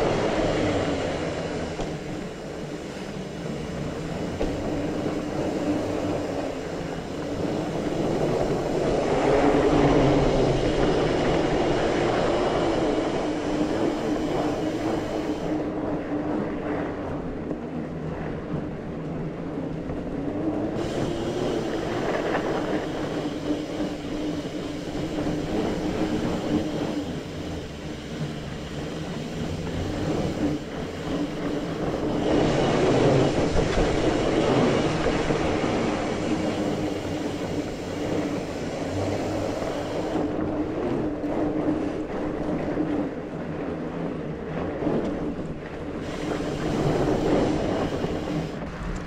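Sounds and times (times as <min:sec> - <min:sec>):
mountain bike tyres and drivetrain: 0:00.0 - 0:49.0.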